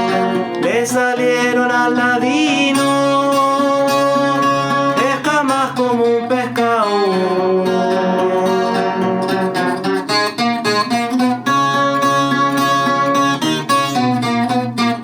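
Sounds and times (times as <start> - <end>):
guitar strummed and plucked: 0.0 - 15.0.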